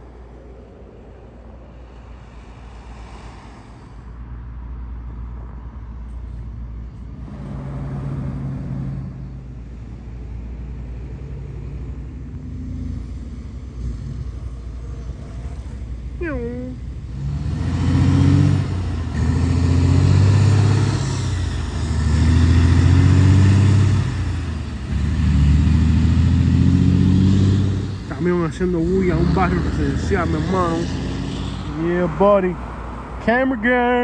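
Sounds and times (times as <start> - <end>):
passing vehicle engine hum: 0.0 - 34.0
road traffic rumble: 0.0 - 34.0.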